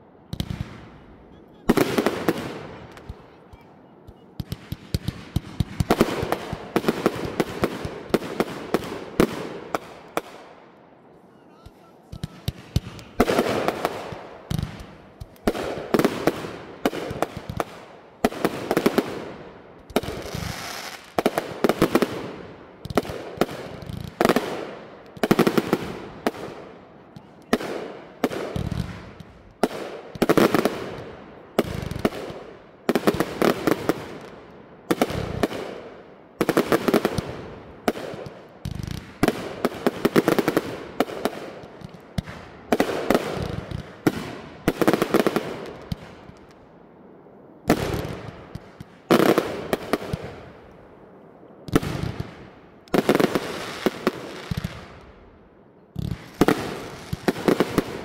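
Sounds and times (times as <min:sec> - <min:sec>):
fireworks banging and crackling: 0:00.0 - 0:46.8, 0:47.5 - 0:51.0, 0:51.6 - 0:58.0.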